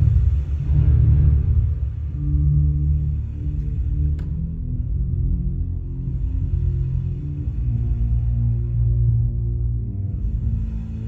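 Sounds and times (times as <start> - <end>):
ambient electronic drone music: 0.0 - 11.0.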